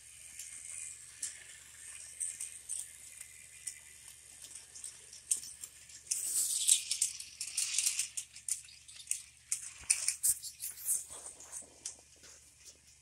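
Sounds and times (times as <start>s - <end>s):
toy train wagons clattering on track: 0.0s - 10.4s, 11.3s - 13.0s.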